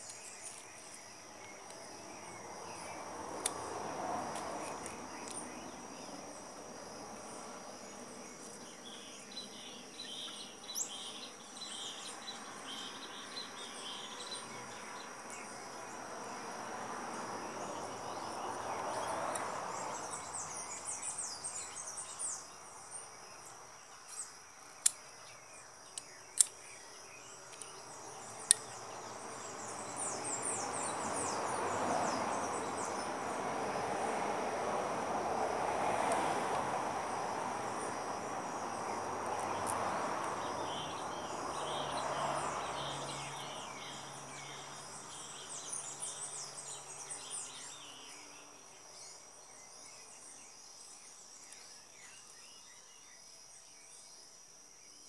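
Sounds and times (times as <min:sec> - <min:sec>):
high insect drone: 0:00.0 - 0:55.0
insects chirping: 0:00.0 - 0:55.0.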